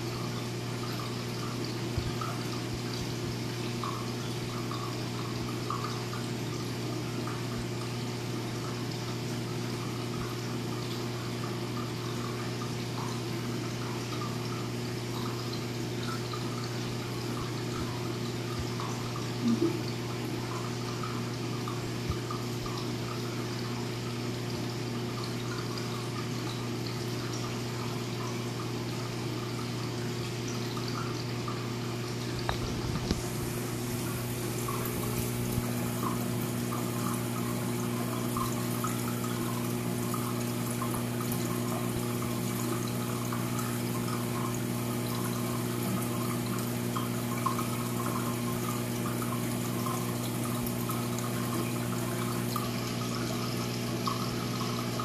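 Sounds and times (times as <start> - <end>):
low pump hum: 0.0 - 55.0
water trickling and splashing: 0.0 - 55.0.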